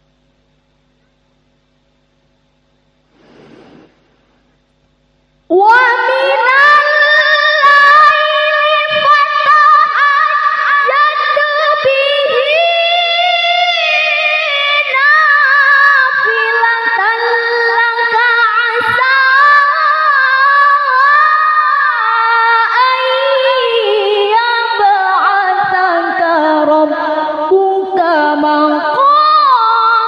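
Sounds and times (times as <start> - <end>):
woman reciting melodically: 5.5 - 30.0.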